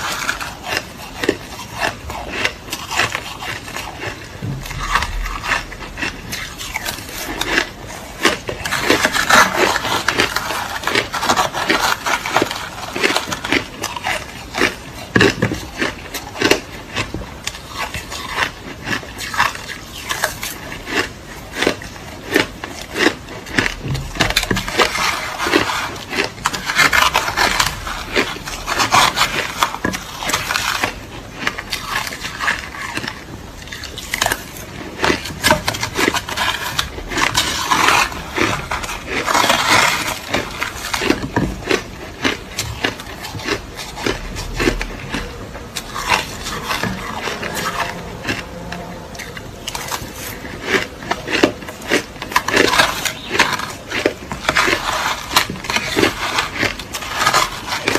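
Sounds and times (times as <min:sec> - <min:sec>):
crushed ice being chewed: 0:00.0 - 0:57.9.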